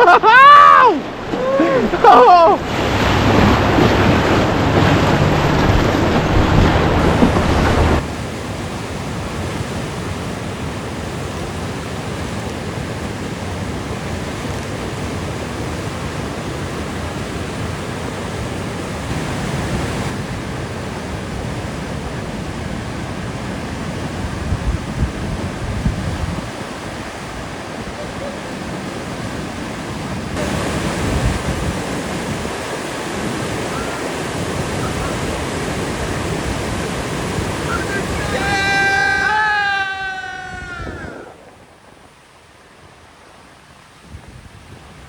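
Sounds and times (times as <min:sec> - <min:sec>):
river rushing through rapids: 0:00.0 - 0:45.0.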